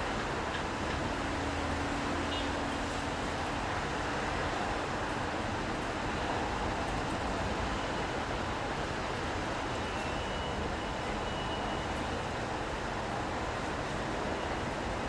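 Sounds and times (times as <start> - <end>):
traffic on wet roads: 0.0 - 15.0.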